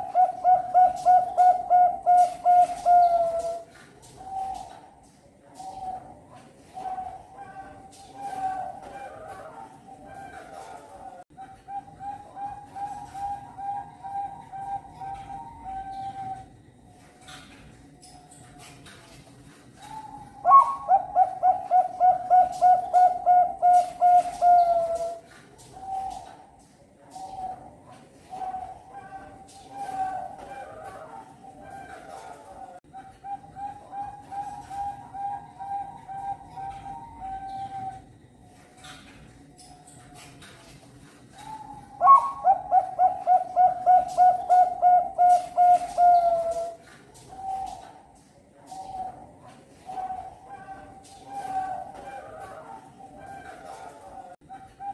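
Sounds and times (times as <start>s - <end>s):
dove cooing: 0.0s - 16.8s, 19.8s - 39.3s, 41.3s - 54.9s.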